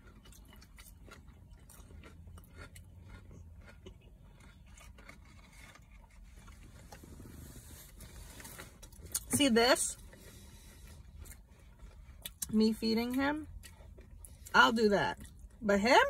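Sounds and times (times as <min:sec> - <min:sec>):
quiet chewing: 0:00.0 - 0:09.3, 0:09.9 - 0:14.5, 0:15.1 - 0:15.6.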